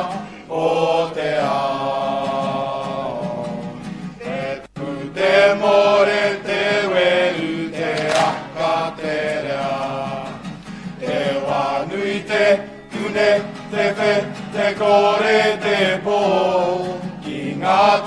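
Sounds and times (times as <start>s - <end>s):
group chanting in unison: 0.0s - 10.4s, 11.0s - 18.0s.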